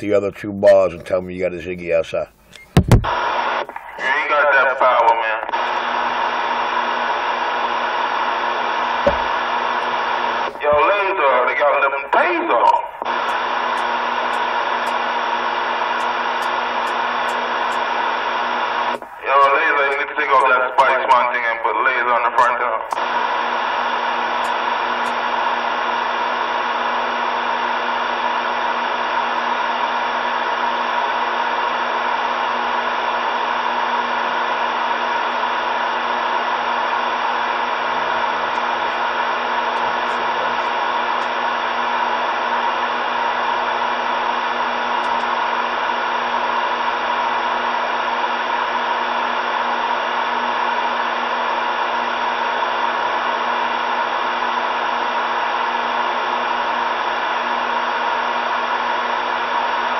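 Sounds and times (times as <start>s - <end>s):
faint steady hum: 0.0s - 59.9s
radio static hiss: 0.0s - 59.9s.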